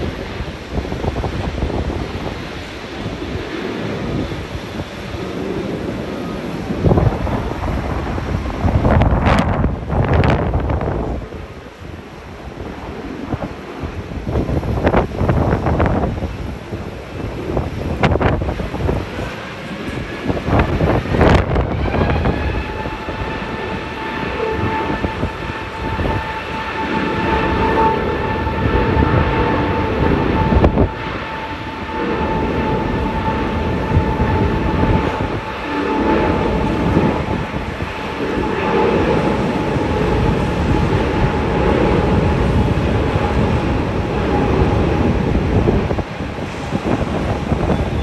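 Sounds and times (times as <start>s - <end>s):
heavy rain: 0.0s - 48.0s
jet engine whine: 0.0s - 48.0s
wind buffeting microphone: 0.0s - 48.0s.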